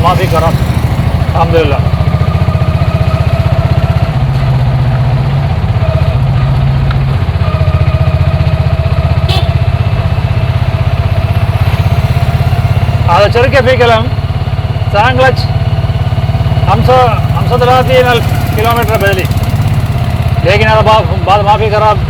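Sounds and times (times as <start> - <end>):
auto-rickshaw engine idling: 0.0 - 22.0.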